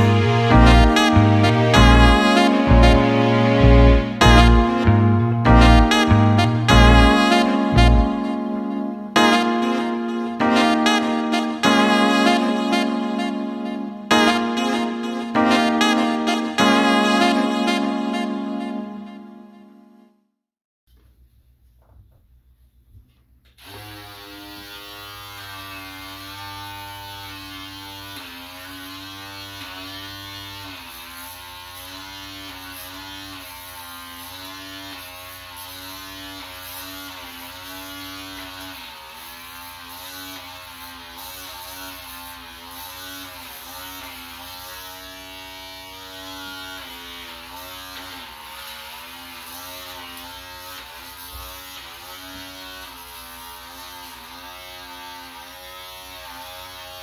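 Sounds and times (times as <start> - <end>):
electric shaver buzzing: 0.0 - 19.5, 23.6 - 57.0.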